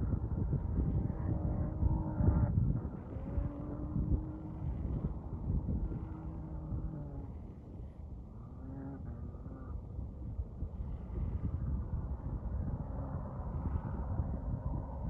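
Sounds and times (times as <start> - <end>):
distant engine droning: 0.0 - 15.0
wind buffeting on microphone: 0.0 - 15.0.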